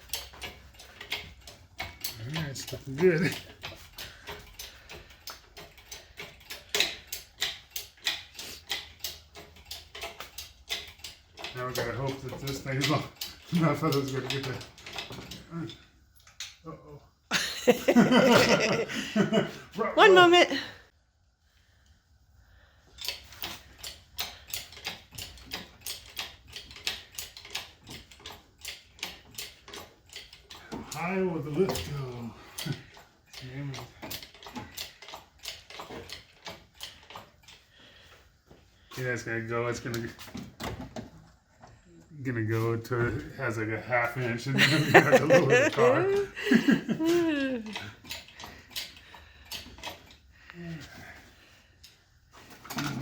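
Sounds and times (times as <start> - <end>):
ratchet clicking: 0.0 - 16.6, 22.8 - 40.7, 44.8 - 52.9.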